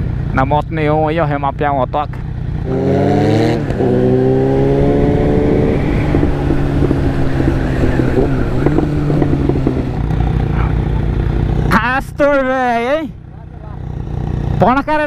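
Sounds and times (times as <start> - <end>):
wind and road noise: 0.0 - 15.0
motorcycle engine rising in pitch: 2.2 - 15.0.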